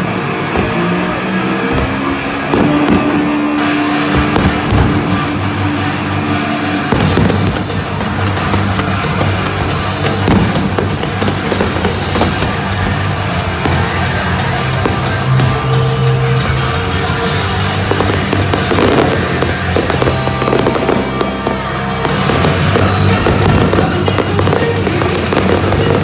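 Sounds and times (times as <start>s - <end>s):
fireworks bangs and crackles: 0.0s - 26.0s
loud music with steady bass: 0.0s - 26.0s.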